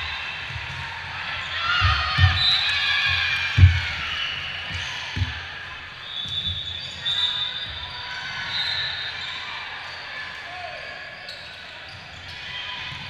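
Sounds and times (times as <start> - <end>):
people calling and shouting: 0.0 - 13.0.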